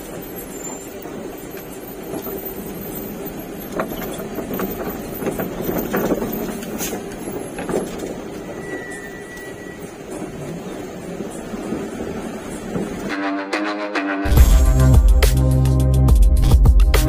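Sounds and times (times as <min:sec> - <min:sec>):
vehicle engine rumbling: 0:00.0 - 0:13.2, 0:14.3 - 0:17.0.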